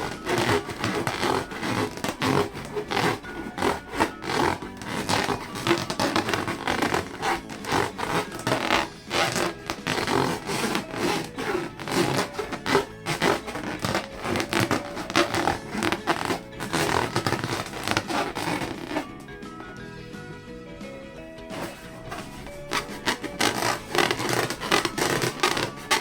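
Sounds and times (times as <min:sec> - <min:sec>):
balloons squeaking when rubbed: 0:00.0 - 0:19.9, 0:21.4 - 0:26.0.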